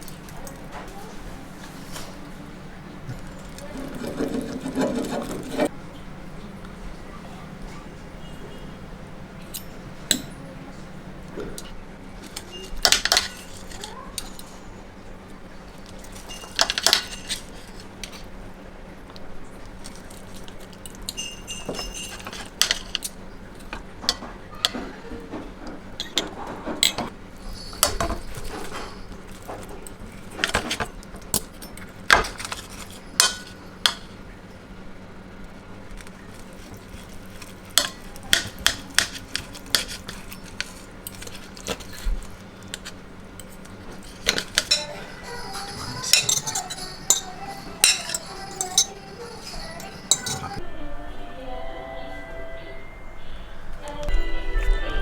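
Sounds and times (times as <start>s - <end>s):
plates and cutlery clinking: 0.0s - 6.1s, 7.0s - 18.3s, 19.6s - 34.2s, 36.2s - 50.6s.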